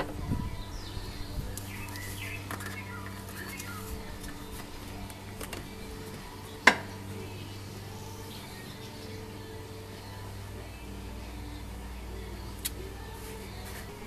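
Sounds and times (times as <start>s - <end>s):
birds chirping: 0.0s - 14.0s
steady low hum: 0.0s - 14.0s.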